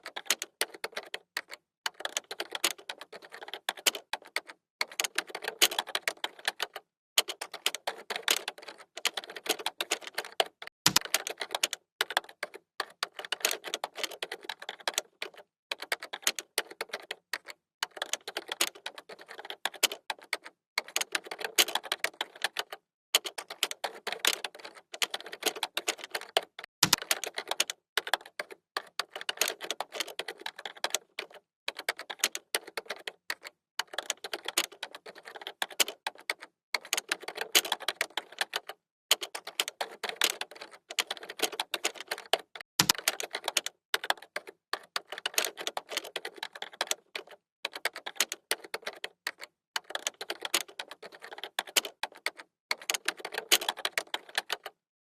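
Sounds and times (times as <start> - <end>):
computer keyboard typing: 0.0 - 54.8.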